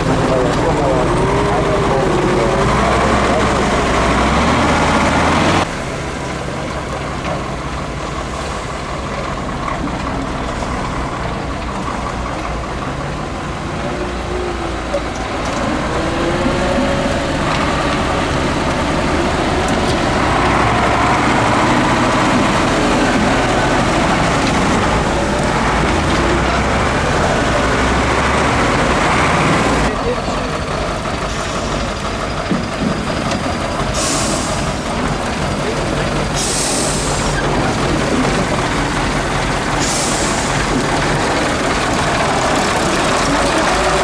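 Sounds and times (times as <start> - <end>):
truck engine revving under load: 0.0 - 44.0.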